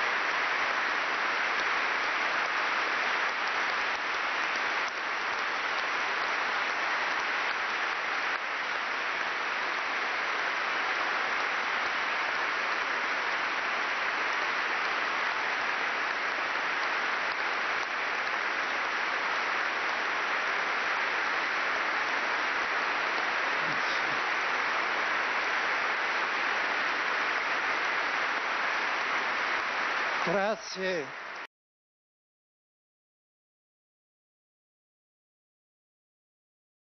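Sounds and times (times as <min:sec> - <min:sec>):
crowd applause: 0:00.0 - 0:31.5.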